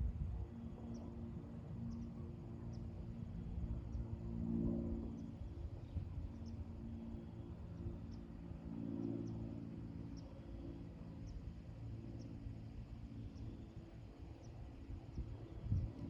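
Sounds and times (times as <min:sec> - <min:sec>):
low droning hum: 0:00.0 - 0:16.0.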